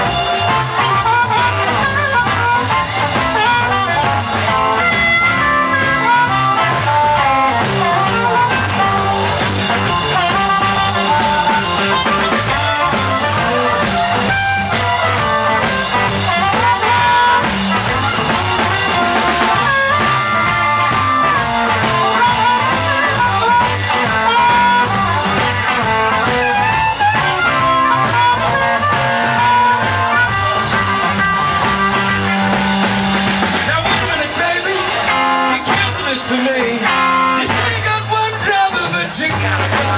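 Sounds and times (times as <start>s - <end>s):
amplified harmonica wailing: 0.0s - 38.5s
electric blues band: 0.0s - 39.9s.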